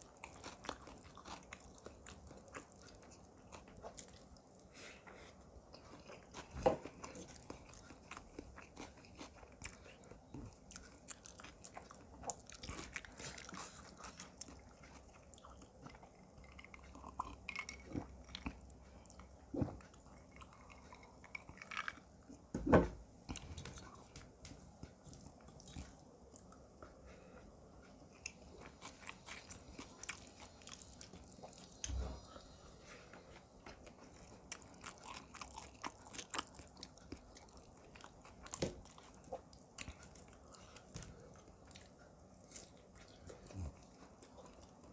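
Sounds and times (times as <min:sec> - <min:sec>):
chewing and crunching food: 0:00.0 - 0:44.9.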